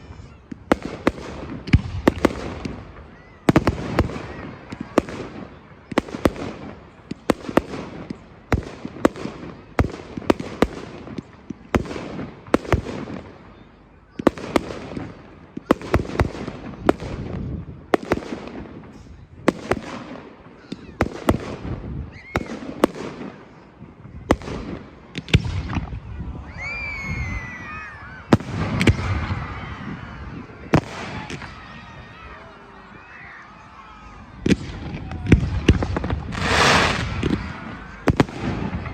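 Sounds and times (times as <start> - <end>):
fireworks bangs and crackle: 0.0 - 32.4, 34.2 - 38.9
high whistling fireworks: 0.0 - 38.9.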